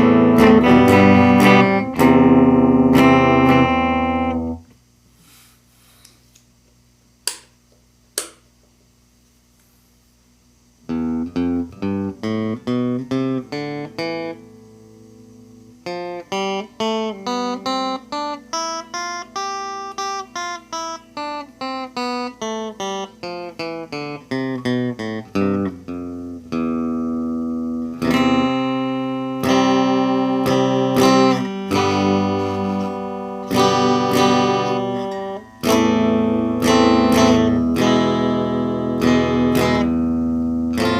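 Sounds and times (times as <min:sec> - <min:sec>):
clean electric guitar: 0:00.0 - 0:04.8, 0:10.8 - 0:40.9.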